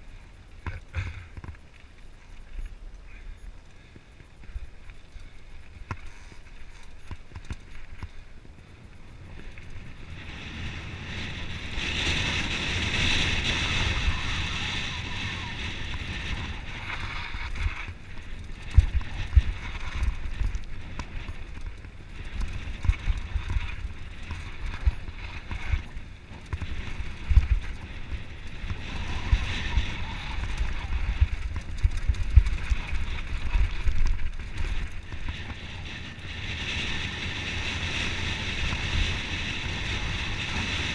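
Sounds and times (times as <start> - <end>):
wind noise on microphone: 4.4 - 40.9.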